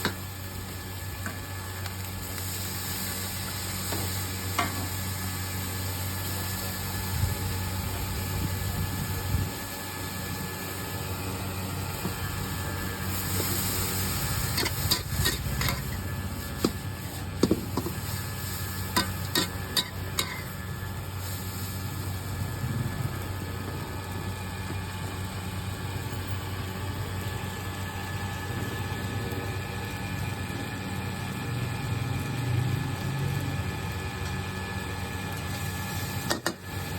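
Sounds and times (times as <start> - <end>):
low hum with hiss: 0.0 - 36.9.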